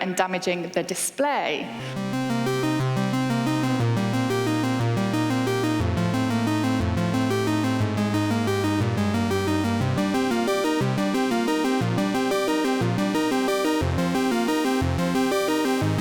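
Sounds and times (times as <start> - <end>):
upbeat electronic music: 1.8 - 16.0.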